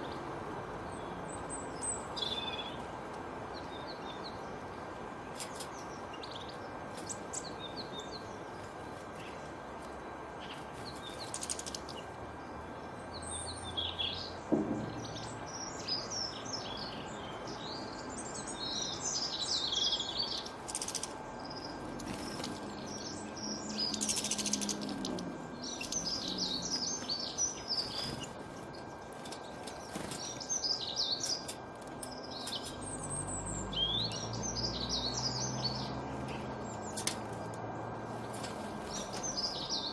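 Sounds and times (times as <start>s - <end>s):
small birds chirping: 0.0s - 39.9s
steady background hiss: 0.0s - 39.9s.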